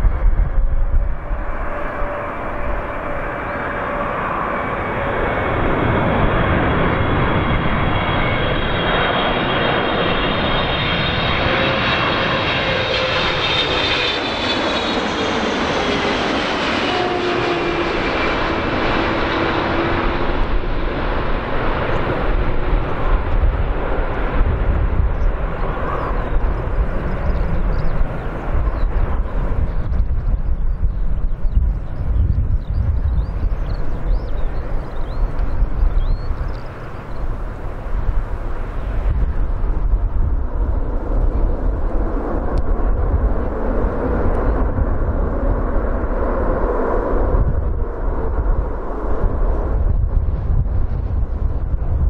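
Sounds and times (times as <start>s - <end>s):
jet plane passing overhead: 0.0s - 52.0s.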